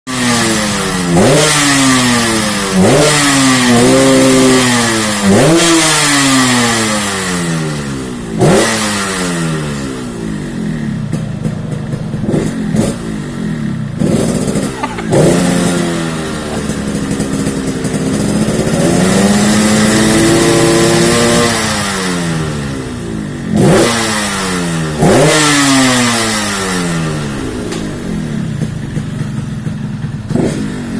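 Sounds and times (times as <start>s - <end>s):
two-stroke motorcycle engine revving: 0.1s - 30.9s.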